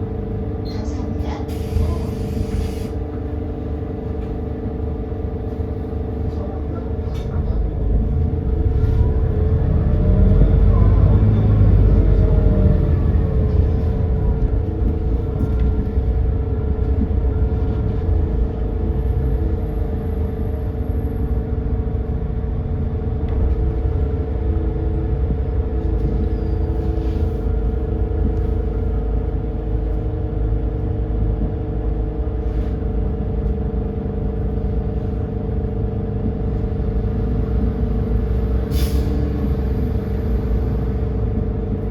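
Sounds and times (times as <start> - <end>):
bus engine rumble: 0.0 - 41.9.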